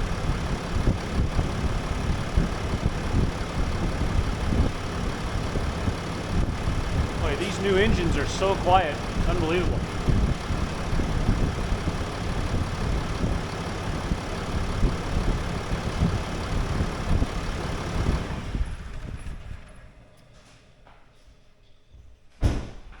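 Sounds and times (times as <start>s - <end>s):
diesel engine idling: 0.0s - 20.2s.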